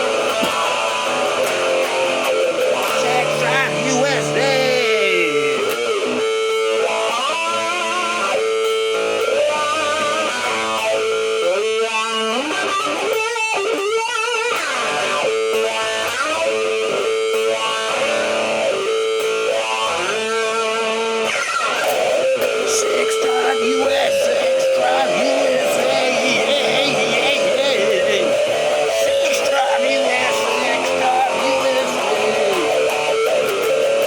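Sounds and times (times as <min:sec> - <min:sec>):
guitar playing bent notes: 0:00.0 - 0:34.0.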